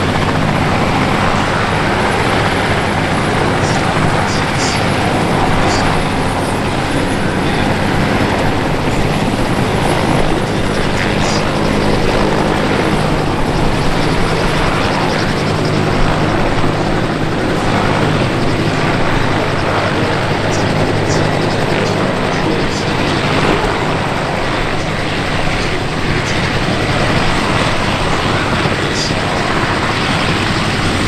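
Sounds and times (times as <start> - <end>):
helicopter rotor and engine noise: 0.0 - 31.0.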